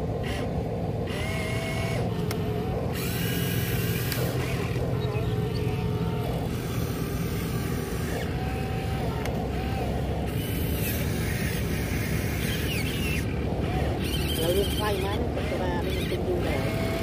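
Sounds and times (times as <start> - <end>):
electric motors whirring: 0.0 - 17.0.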